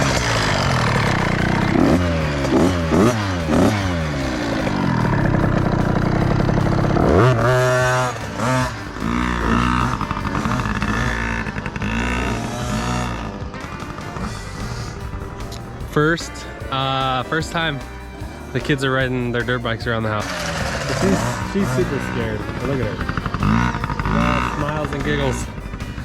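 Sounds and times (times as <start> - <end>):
pit bike engines revving: 0.0 - 26.0.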